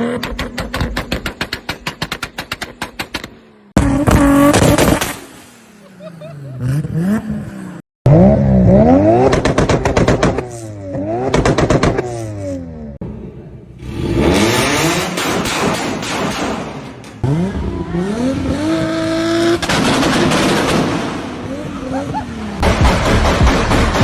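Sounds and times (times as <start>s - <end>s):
car engine revving: 3.7s - 24.0s.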